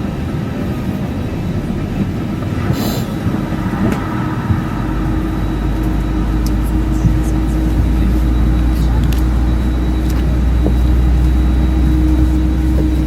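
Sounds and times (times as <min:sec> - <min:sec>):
deep low rumble: 0:00.0 - 0:13.0
machinery hum: 0:00.0 - 0:13.0
steady hum: 0:00.0 - 0:13.0
ventilation rush: 0:00.0 - 0:13.0.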